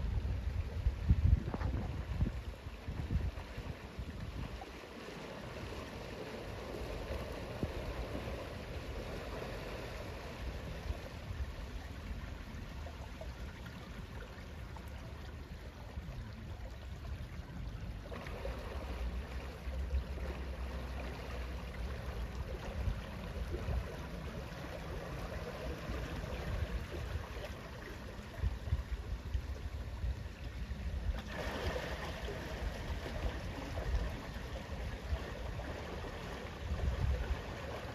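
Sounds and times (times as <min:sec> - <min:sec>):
water swishing and lapping: 0:00.0 - 0:37.9
wind rumble on microphone: 0:00.0 - 0:37.9.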